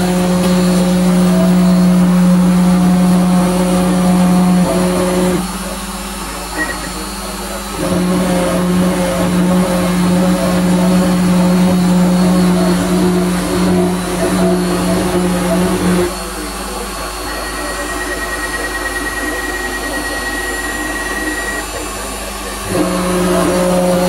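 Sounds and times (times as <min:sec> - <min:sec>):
cnc router motor whine: 0:00.0 - 0:24.0.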